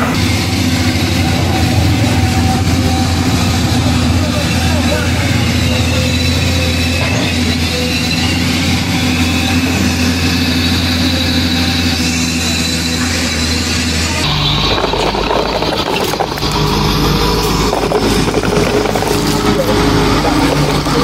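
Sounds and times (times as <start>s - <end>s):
deep rough engine sound: 0.0s - 21.0s
heavy diesel engine idling: 0.0s - 21.0s.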